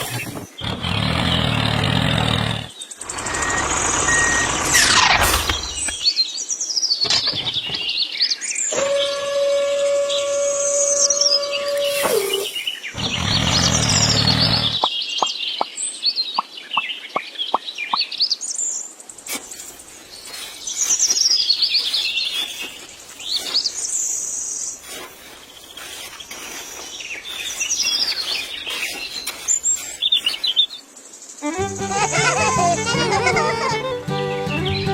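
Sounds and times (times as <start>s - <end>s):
birds chirping: 0.0s - 6.3s, 7.0s - 9.2s, 10.2s - 32.7s.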